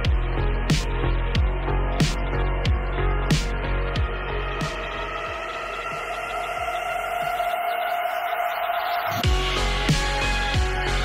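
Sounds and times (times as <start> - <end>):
deep kick drum beat: 0.0 - 7.6, 9.2 - 11.0
electronic music chord: 0.0 - 11.0.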